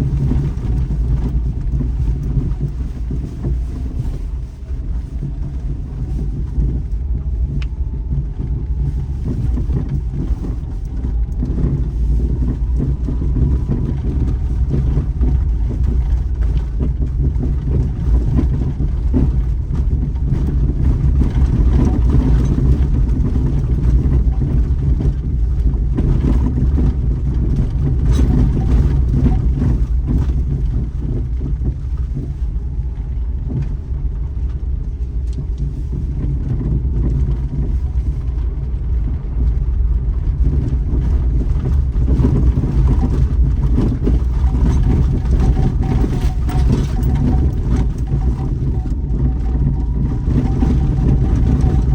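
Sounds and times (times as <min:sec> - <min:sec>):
car engine and road rumble: 0:00.0 - 0:51.9
knocks and rattles from rough road: 0:00.0 - 0:51.9.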